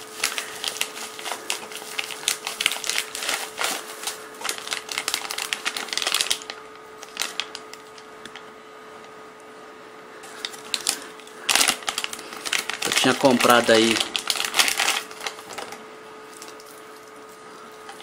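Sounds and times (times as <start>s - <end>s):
bubble wrap and plastic crinkling: 0.0s - 8.6s, 10.2s - 18.0s.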